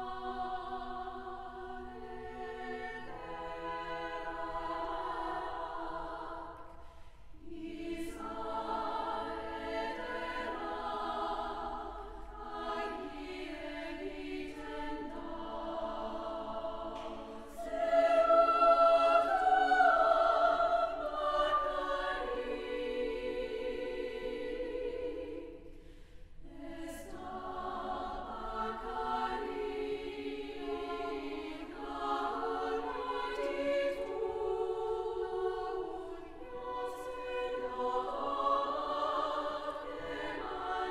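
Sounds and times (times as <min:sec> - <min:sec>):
women's choir singing: 0:00.0 - 0:40.9.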